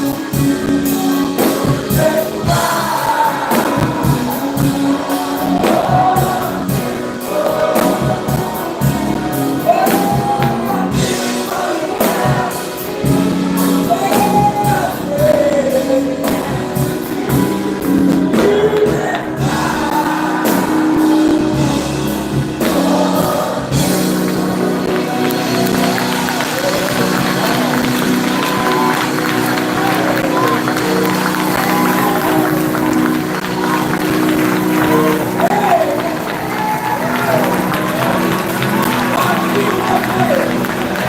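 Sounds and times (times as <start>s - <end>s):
live gospel music: 0.0s - 41.0s.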